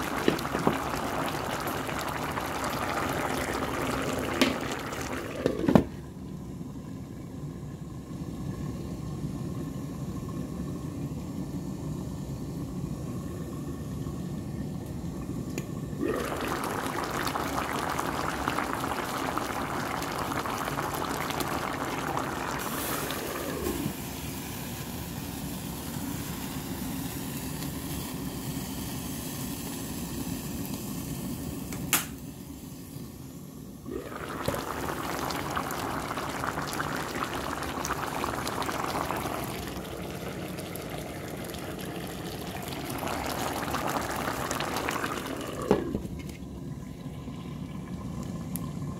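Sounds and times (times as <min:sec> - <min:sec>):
pot boiling and bubbling: 0:00.0 - 0:48.9.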